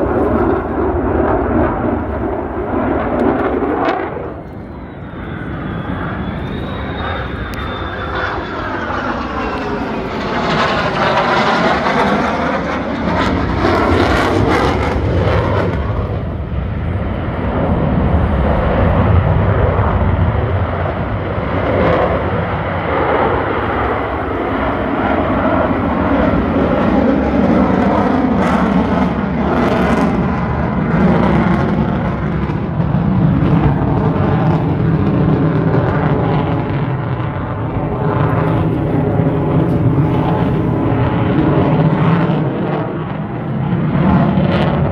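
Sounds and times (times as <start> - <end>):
aircraft engine flying past: 0.0 - 44.9.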